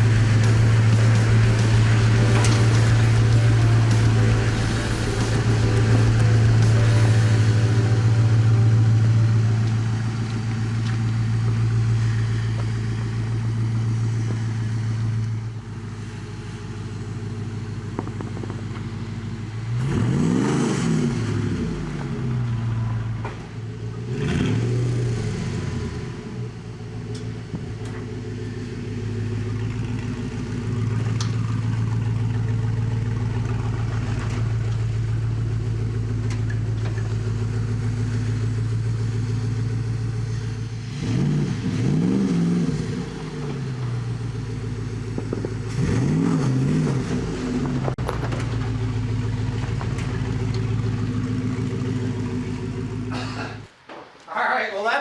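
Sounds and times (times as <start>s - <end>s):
engine humming and revving: 0.0s - 53.7s.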